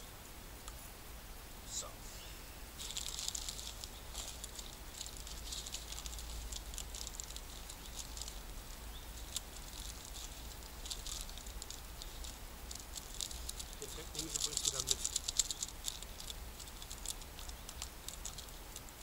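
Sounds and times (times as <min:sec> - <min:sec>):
plastic packet crinkling: 0:02.8 - 0:19.0.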